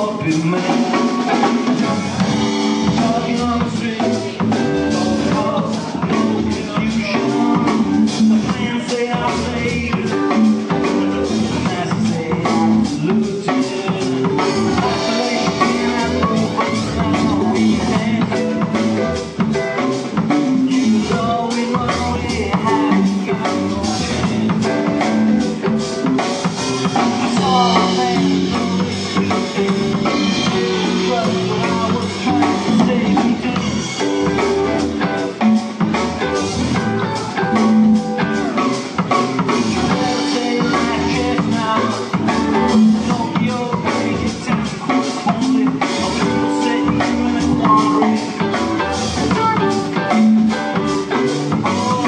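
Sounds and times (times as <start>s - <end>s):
rock band playing: 0.0s - 52.0s.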